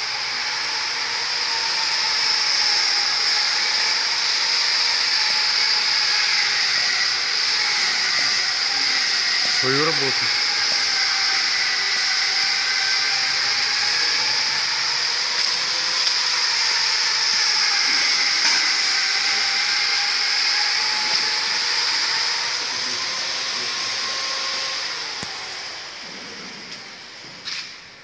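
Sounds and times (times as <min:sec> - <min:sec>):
machine hissing and whining: 0:00.0 - 0:28.0.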